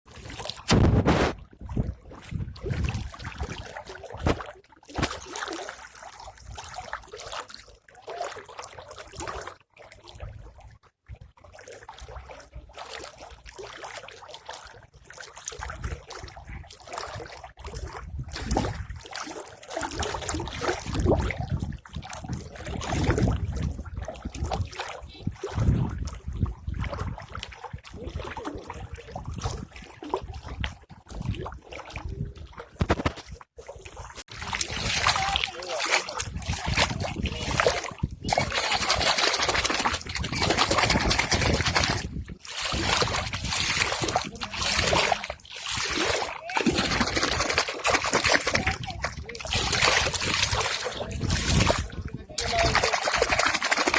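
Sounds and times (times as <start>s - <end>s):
water splashing and trickling: 0.1s - 53.9s.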